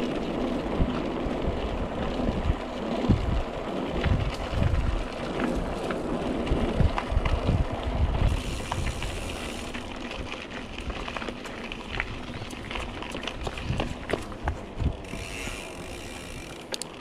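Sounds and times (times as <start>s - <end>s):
wind buffeting microphone: 0.0s - 16.6s
bike clicks and rattles: 0.0s - 17.0s
bike tyres crunching gravel: 0.0s - 17.0s.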